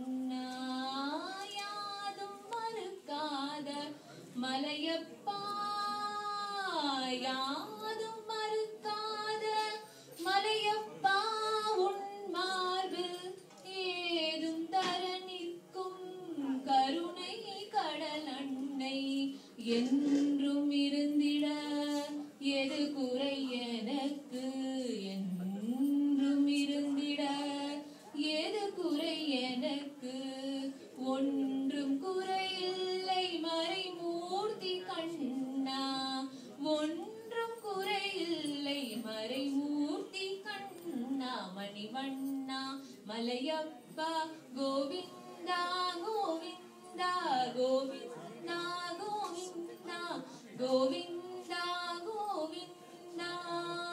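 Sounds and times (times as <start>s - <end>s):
woman singing devotional song: 0.0s - 53.9s.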